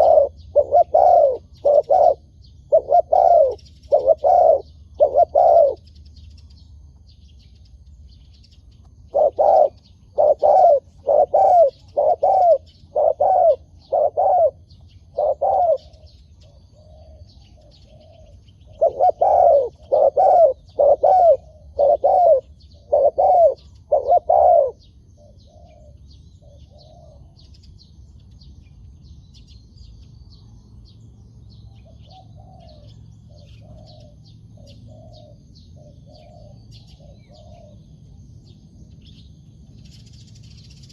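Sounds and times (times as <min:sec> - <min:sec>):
doves cooing: 0:00.0 - 0:06.2, 0:08.6 - 0:27.7, 0:31.8 - 0:40.9
small birds chirping: 0:00.0 - 0:40.9.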